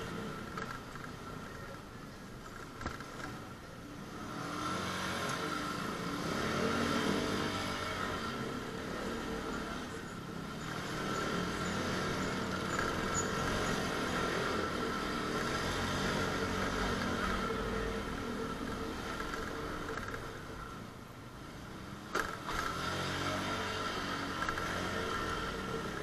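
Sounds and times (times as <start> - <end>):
motorcycle engine running: 0.0 - 20.9
road noise: 0.0 - 26.0.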